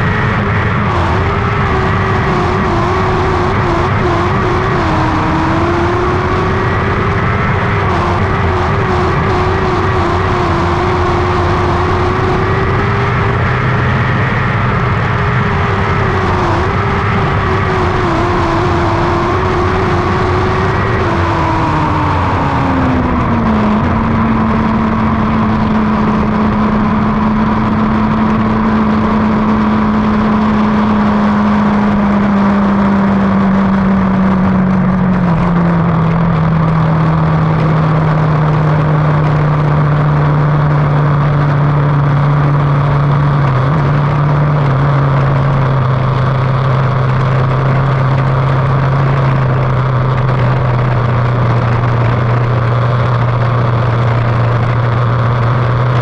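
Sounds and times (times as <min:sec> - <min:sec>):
race car engine running: 0:00.0 - 0:56.0
steady rush of noise: 0:00.0 - 0:56.0.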